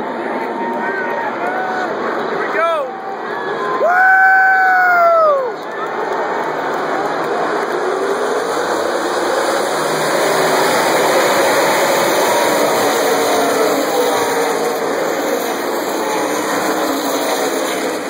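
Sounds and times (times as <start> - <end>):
race cars passing at speed: 0.0 - 18.0.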